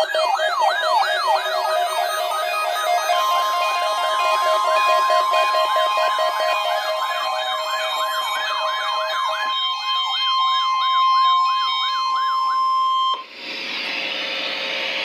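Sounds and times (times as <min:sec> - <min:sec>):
steady warning alarm tone: 0:00.0 - 0:13.3
wailing siren alert: 0:00.0 - 0:13.3.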